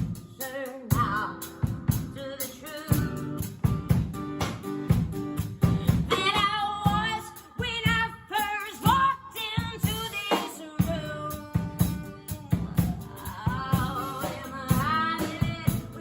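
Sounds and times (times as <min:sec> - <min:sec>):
drum-kit beat: 0:00.0 - 0:16.0
folk-rock band: 0:00.0 - 0:16.0
woman singing with vibrato: 0:00.2 - 0:03.4, 0:06.0 - 0:16.0.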